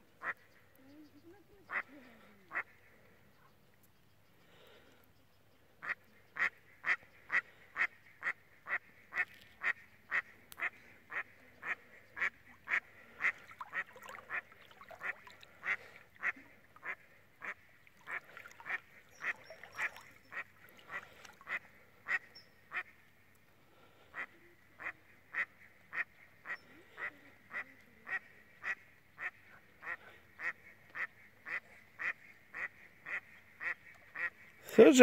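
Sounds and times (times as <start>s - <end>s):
duck quacking: 1.7s - 2.8s, 5.8s - 22.9s, 24.1s - 34.6s.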